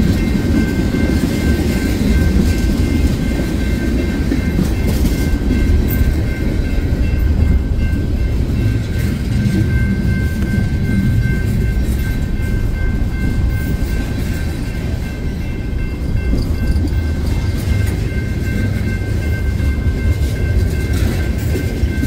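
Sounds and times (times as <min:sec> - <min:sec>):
freight train wheels rumbling: 0:00.0 - 0:22.0
high-pitched ringing tone: 0:00.0 - 0:22.0.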